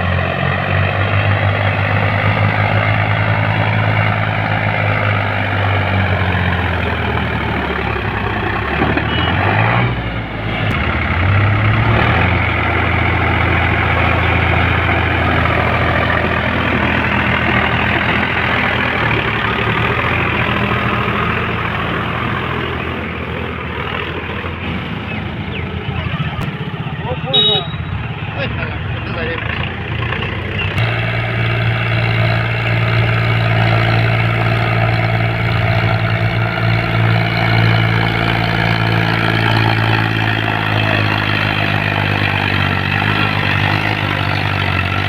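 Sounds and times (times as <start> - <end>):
backhoe diesel engine working: 0.0 - 45.0.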